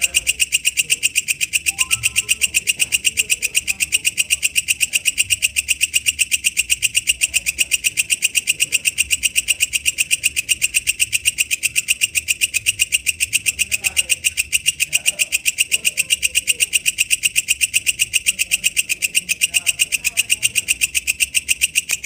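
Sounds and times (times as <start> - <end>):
katydid chirping: 0.0 - 22.0.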